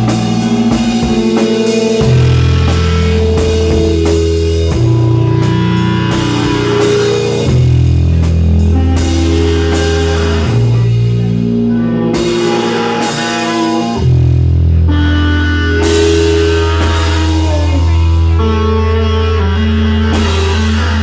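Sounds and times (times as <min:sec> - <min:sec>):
live rock band playing: 0:00.0 - 0:21.0
long held bass notes: 0:00.0 - 0:21.0.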